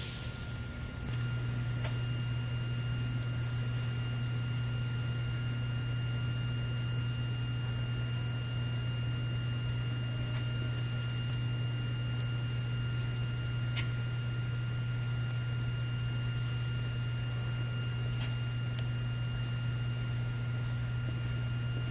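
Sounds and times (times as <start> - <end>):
machine low hum: 0.0 - 21.9.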